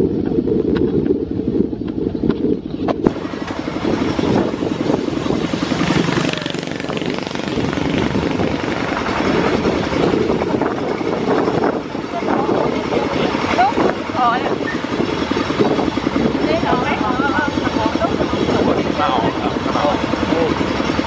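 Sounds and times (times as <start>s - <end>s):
tractor engine chugging: 0.0s - 21.0s
trailer rattling: 0.0s - 21.0s.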